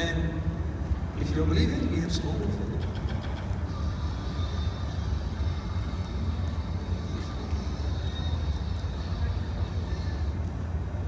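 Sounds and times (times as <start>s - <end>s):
auditorium background rumble and hiss: 0.0s - 11.0s.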